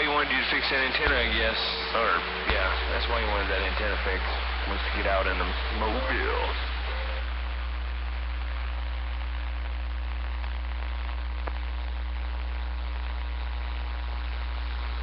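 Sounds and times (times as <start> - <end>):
radio static hiss: 0.0 - 15.0
steady low hum: 0.0 - 15.0.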